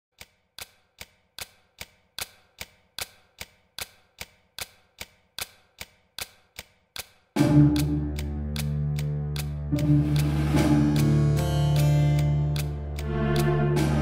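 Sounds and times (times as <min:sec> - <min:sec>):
sharp clock ticking: 0:00.1 - 0:14.0.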